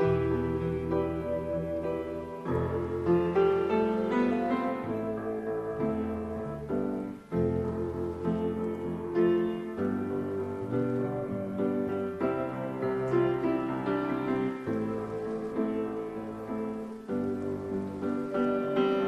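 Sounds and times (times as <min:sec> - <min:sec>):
piano ballad chords: 0:00.0 - 0:19.0.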